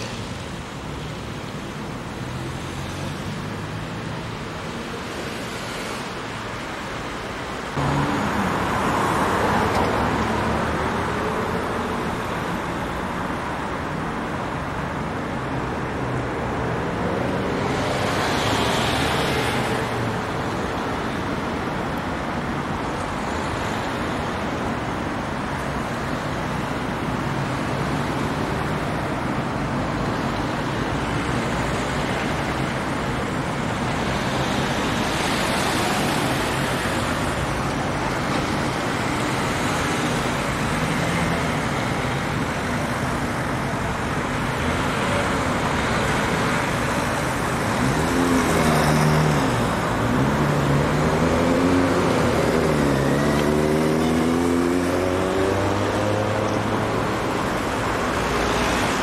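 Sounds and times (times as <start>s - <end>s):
city road traffic: 0.0s - 59.0s
vehicles passing close by: 0.0s - 59.0s.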